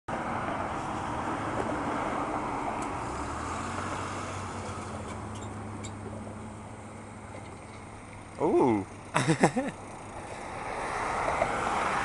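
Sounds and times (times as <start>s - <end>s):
car tyres and engine passing: 0.1s - 12.0s.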